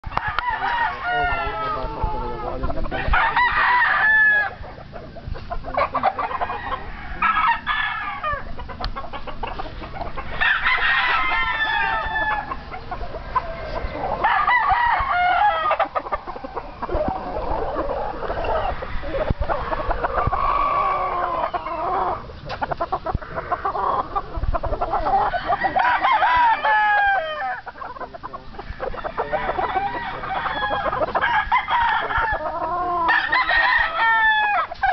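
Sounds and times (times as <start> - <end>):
chickens clucking: 0.0 - 34.9
roosters crowing: 0.0 - 34.9.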